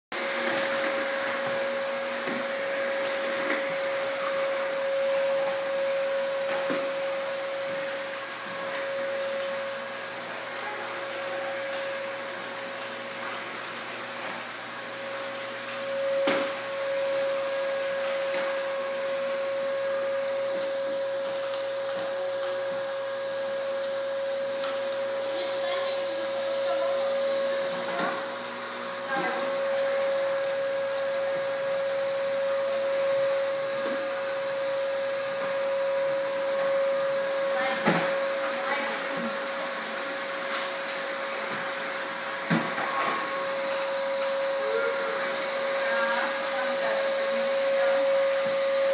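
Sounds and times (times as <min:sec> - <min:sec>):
vacuum cleaner running: 0:00.1 - 0:48.9.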